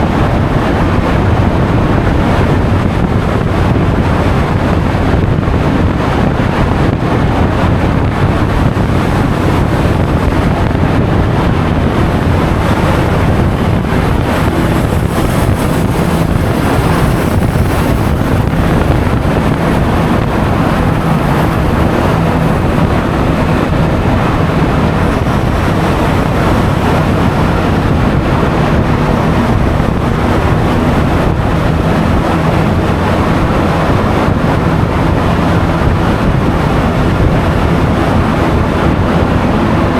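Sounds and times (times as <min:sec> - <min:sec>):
road noise: 0:00.0 - 0:39.9
scooter engine humming: 0:00.0 - 0:39.9
wind buffeting microphone: 0:00.0 - 0:39.9.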